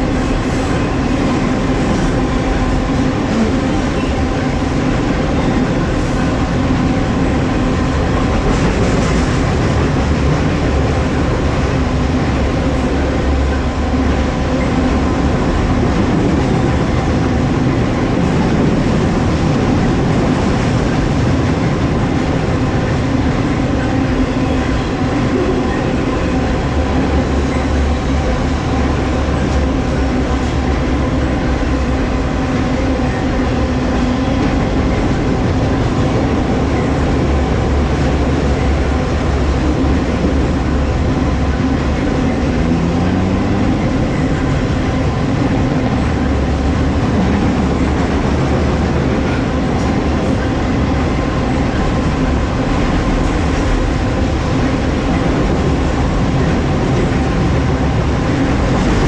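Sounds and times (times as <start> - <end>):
freight train rumbling over bridge: 0.0 - 59.0.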